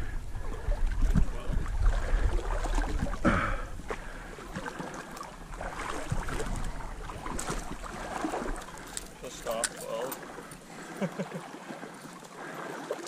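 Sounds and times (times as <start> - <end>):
water sloshing around waders: 0.0 - 13.0.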